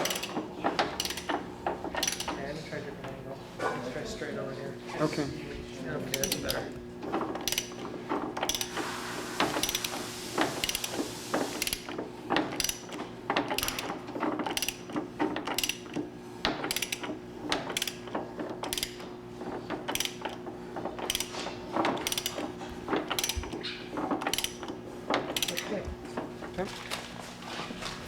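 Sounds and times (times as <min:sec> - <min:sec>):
mechanical clicking and clattering: 0:00.0 - 0:03.2, 0:06.1 - 0:26.6.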